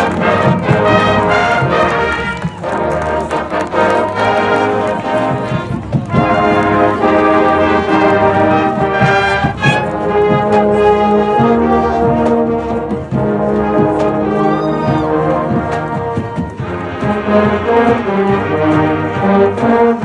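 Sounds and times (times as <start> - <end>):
brass section playing chords: 0.0 - 20.0.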